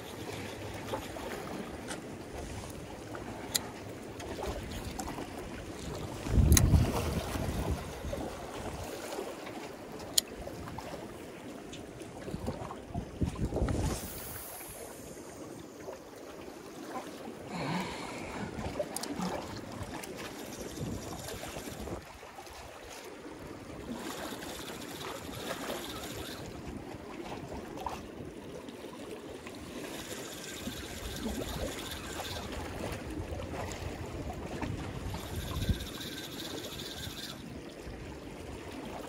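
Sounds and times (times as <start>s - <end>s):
water lapping against concrete: 0.0s - 14.2s, 15.2s - 39.0s.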